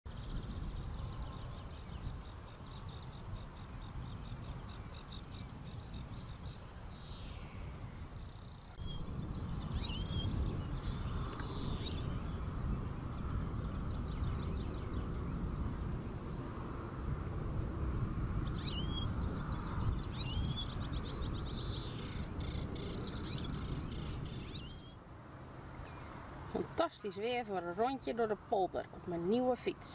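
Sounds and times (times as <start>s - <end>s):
low wind rumble: 0.1s - 29.9s.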